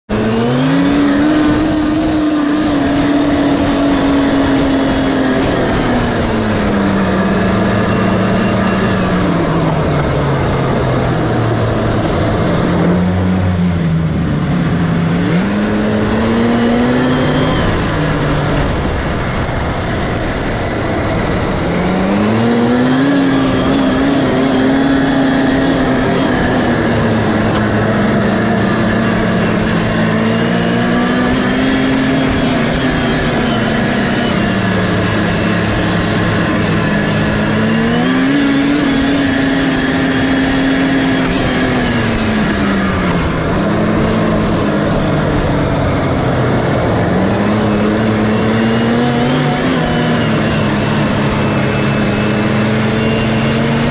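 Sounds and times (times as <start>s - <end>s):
snowmobile engine revving: 0.0s - 53.9s.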